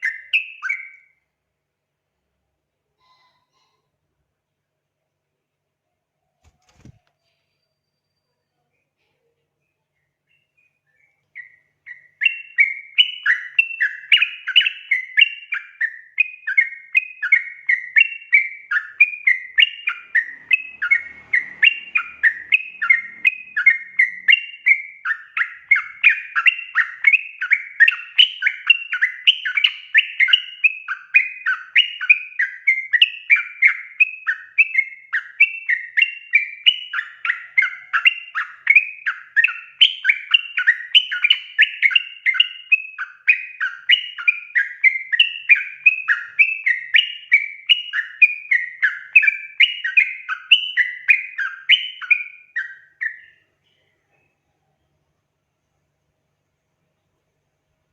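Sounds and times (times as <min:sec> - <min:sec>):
bird chattering song: 0:00.0 - 0:01.2, 0:06.7 - 0:55.0.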